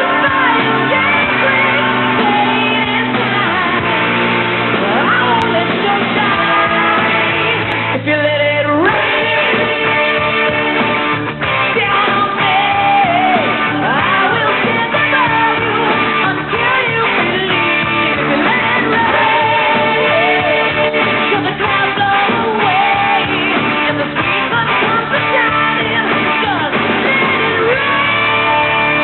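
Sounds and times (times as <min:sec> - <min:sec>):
hard rock song with male vocal: 0:00.0 - 0:29.0.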